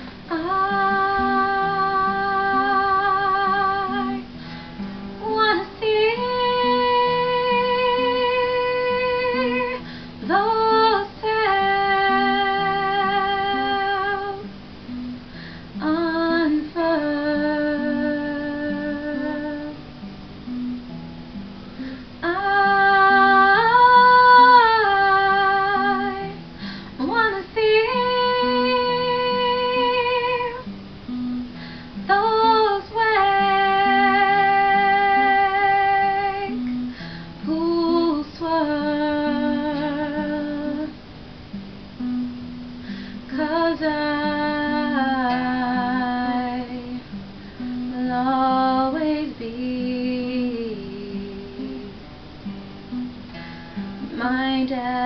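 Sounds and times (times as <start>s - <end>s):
woman singing: 0.0s - 15.0s, 15.7s - 19.9s, 21.8s - 41.1s, 42.0s - 52.2s, 54.0s - 55.0s
acoustic guitar: 0.0s - 55.0s.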